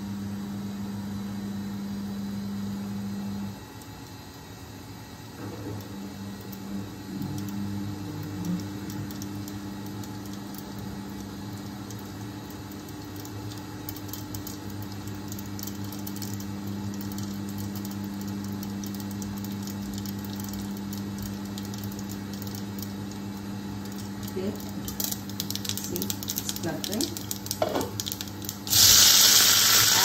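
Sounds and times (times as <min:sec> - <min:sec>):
steady low hum: 0:00.0 - 0:30.0
seeds spluttering in hot oil: 0:03.5 - 0:30.0.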